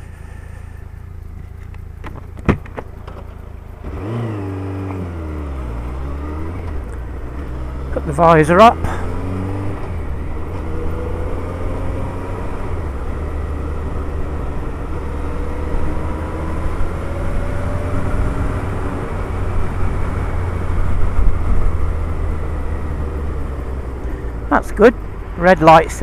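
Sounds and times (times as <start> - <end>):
motorcycle engine humming: 0.0 - 26.0.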